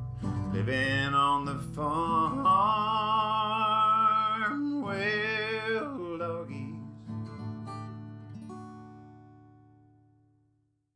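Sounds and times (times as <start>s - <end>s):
acoustic guitar: 0.0s - 10.6s.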